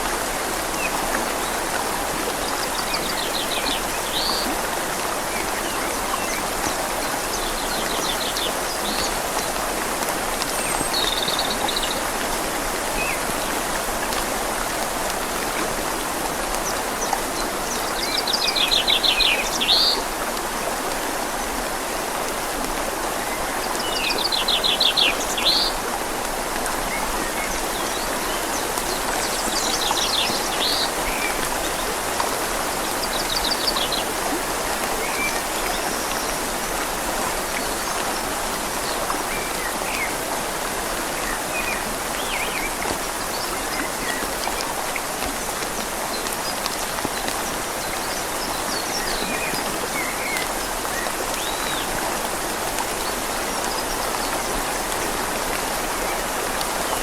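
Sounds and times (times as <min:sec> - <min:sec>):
rain falling on leaves: 0:00.0 - 0:57.0
river flowing: 0:00.0 - 0:57.0.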